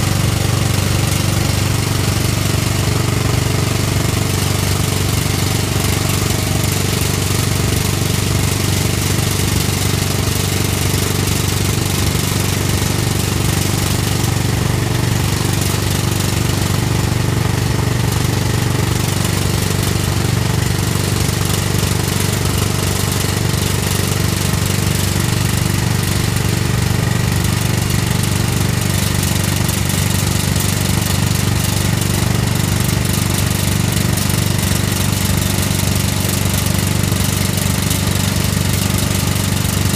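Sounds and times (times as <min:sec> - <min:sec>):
diesel engine running: 0:00.0 - 0:39.9
hydraulic rock drill hammering: 0:00.0 - 0:39.9.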